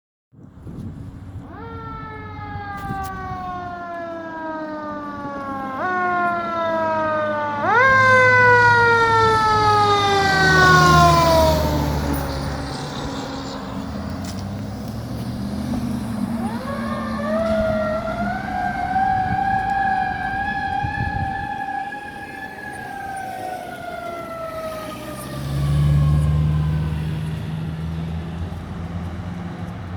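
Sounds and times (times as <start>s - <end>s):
fire engine siren wailing: 1.3s - 29.9s.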